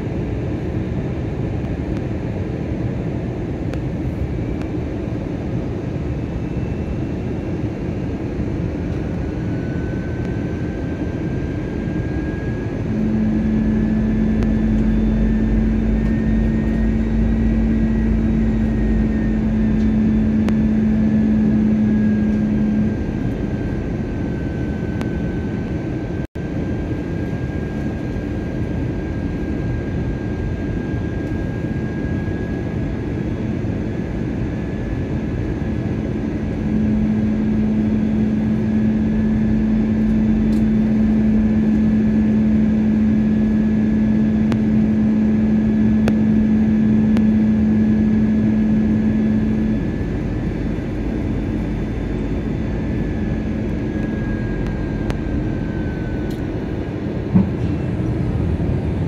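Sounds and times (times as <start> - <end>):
airliner cabin roar: 0.0 - 59.0
low hum: 0.0 - 59.0.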